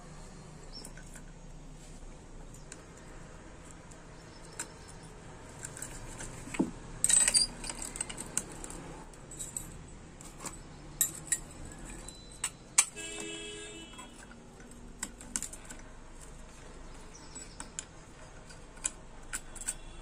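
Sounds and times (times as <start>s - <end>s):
metal clutch plates clinking: 2.2s - 20.0s.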